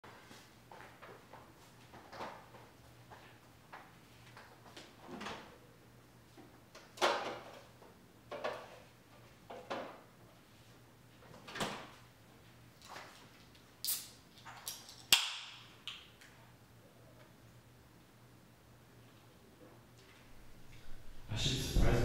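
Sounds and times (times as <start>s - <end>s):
faint steady hum: 0.1s - 22.0s.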